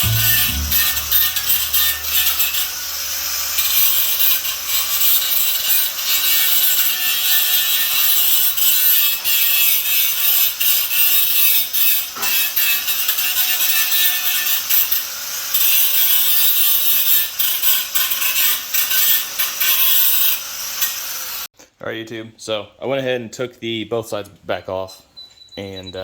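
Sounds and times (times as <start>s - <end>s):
power tool rasping on metal: 0.0s - 21.4s.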